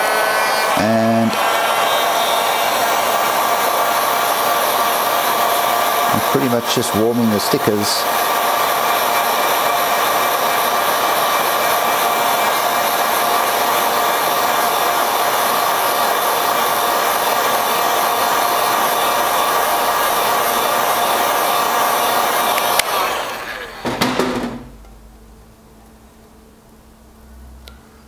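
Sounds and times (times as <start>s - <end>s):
heat gun fan whine: 0.0s - 26.2s.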